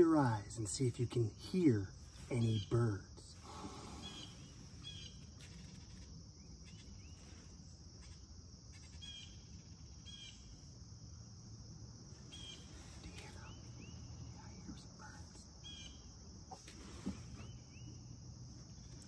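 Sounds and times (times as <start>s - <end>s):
birds chirping: 0.0s - 10.9s, 12.0s - 19.0s.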